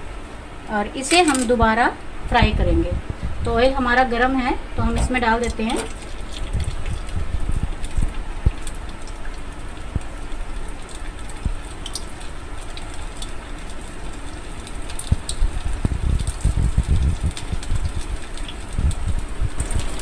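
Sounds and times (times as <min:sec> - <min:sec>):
hot oil sizzling: 0:03.8 - 0:20.0.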